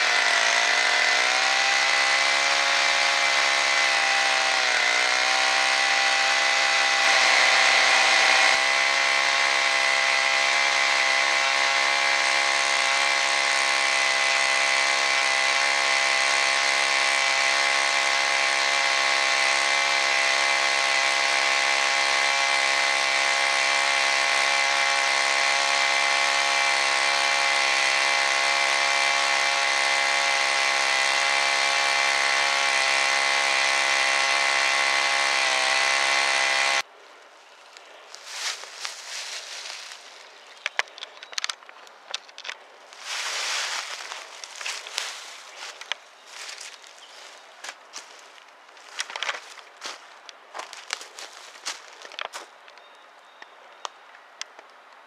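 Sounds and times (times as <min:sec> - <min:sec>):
chainsaw engine running under load: 0:00.0 - 0:36.9, 0:38.2 - 0:41.5, 0:42.2 - 0:50.0, 0:50.6 - 0:52.5.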